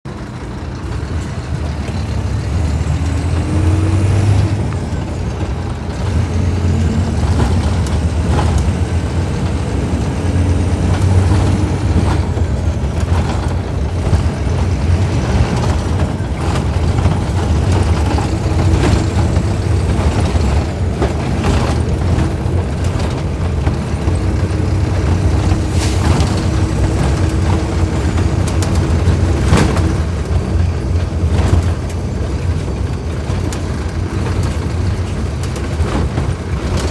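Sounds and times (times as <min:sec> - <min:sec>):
bus engine drone: 0:00.0 - 0:36.9.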